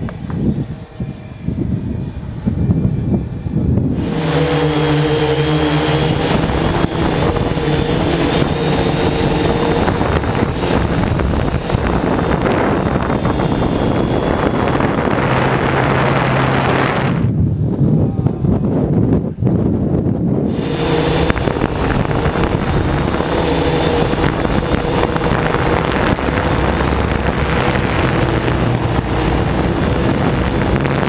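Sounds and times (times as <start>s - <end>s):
drone motors humming: 0.0s - 31.0s.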